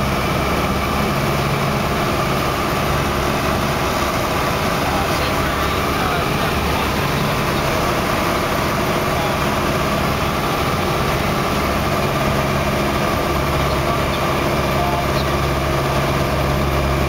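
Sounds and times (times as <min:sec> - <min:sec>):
airplane engine drone in cabin: 0:00.0 - 0:17.0.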